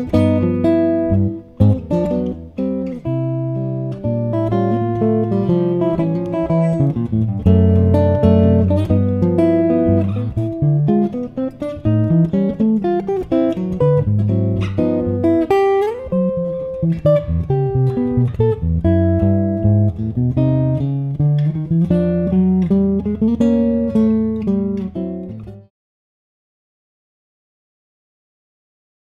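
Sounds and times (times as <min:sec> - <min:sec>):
solo acoustic guitar jazz piece: 0:00.0 - 0:25.7.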